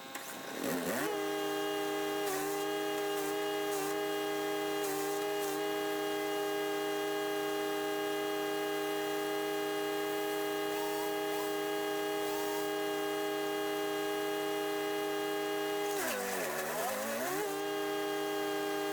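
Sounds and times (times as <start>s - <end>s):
wood chipper engine droning: 0.0s - 18.9s.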